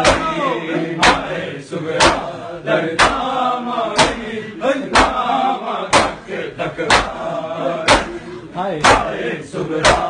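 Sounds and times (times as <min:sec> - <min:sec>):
hands slapping chests in unison: 0:00.0 - 0:04.3, 0:04.9 - 0:10.0
men chanting a lament: 0:00.0 - 0:10.0.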